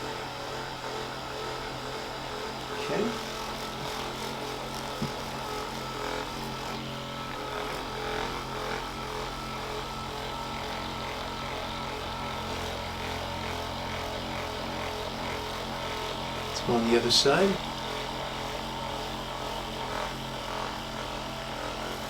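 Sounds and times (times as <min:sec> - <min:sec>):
massager motor buzzing: 0:00.0 - 0:22.0.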